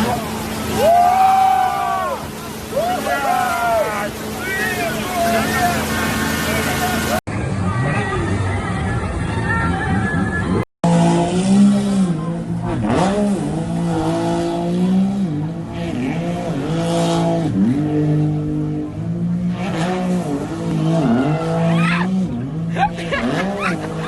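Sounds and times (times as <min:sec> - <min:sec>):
jet ski engine revving: 0:00.0 - 0:07.2, 0:10.8 - 0:24.0.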